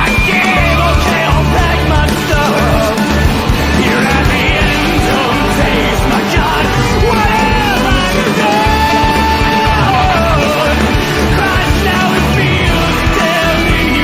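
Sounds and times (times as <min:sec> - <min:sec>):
loud rock band music: 0:00.0 - 0:14.0
person yelling and singing: 0:00.0 - 0:14.0.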